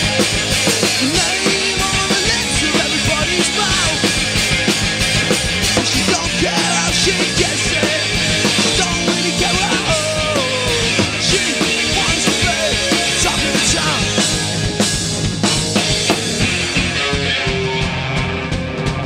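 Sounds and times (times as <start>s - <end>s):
bass guitar: 0.0s - 19.0s
drum kit: 0.0s - 19.0s
electric guitar: 0.0s - 19.0s.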